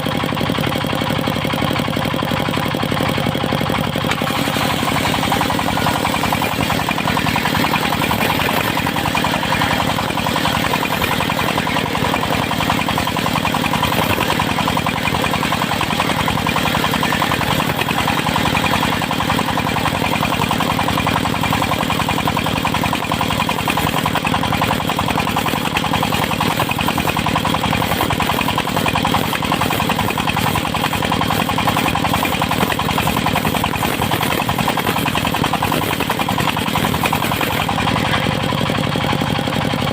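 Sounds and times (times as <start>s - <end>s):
diesel engine knocking: 0.0s - 39.9s.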